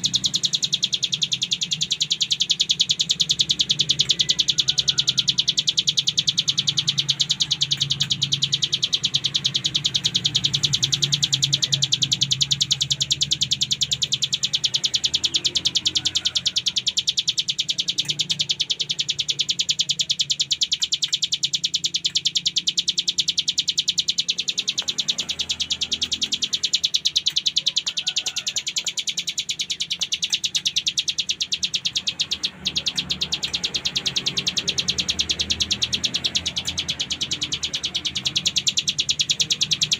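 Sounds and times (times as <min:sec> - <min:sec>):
bird singing a rapid rattle: 0:00.0 - 0:39.9.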